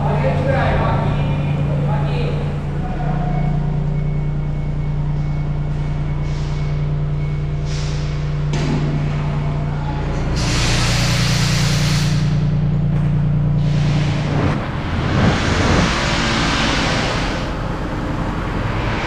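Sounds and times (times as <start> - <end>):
heavy machinery humming: 0.0 - 19.0.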